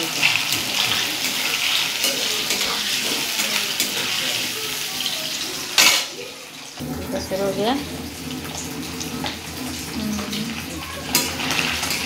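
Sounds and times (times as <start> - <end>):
cheese frying in hot oil: 0.0 - 12.0.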